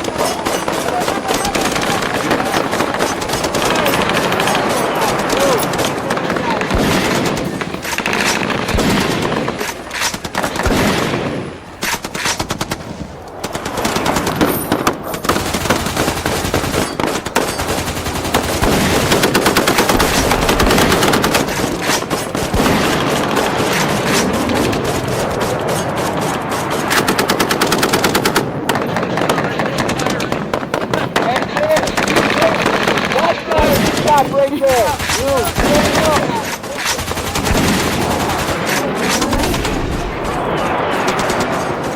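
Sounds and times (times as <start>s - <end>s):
rapid automatic gunfire: 0.0s - 41.9s.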